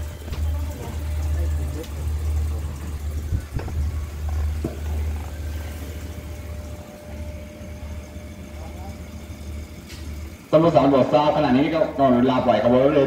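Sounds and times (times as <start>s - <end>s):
diesel train engine idling: 0.0s - 13.0s.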